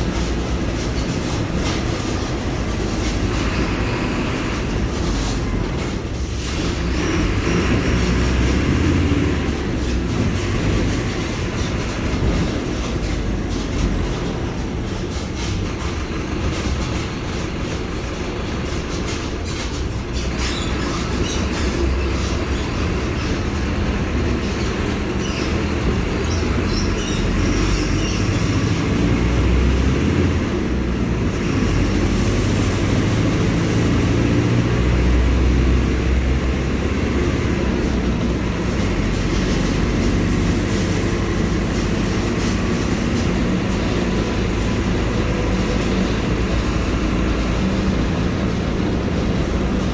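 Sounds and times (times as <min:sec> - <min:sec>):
bus diesel engine rumbling: 0:00.0 - 0:49.9.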